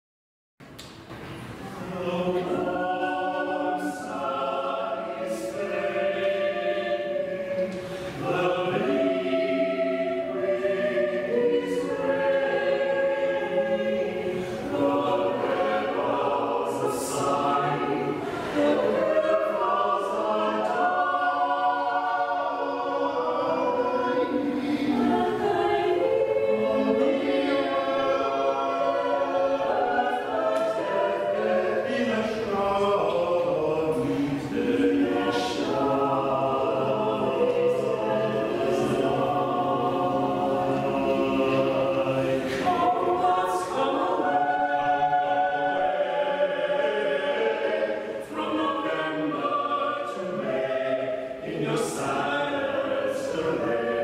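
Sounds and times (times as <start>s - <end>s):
choir singing unaccompanied: 1.6s - 54.0s.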